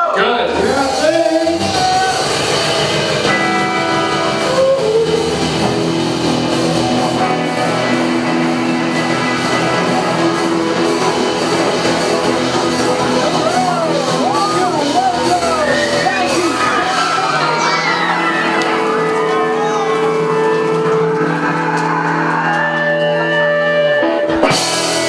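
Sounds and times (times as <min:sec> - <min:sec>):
crowd voices: 0:00.0 - 0:25.0
loud rock music with guitar: 0:00.1 - 0:25.0.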